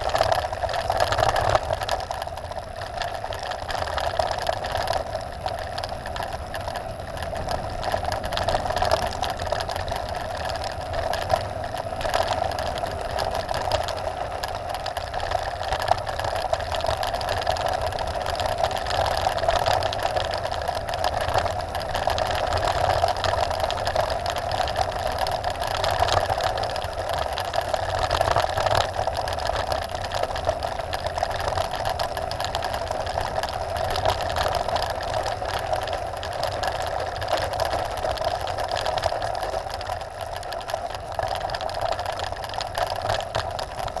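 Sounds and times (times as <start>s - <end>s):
bike tyres rolling on gravel: 0.0s - 44.0s.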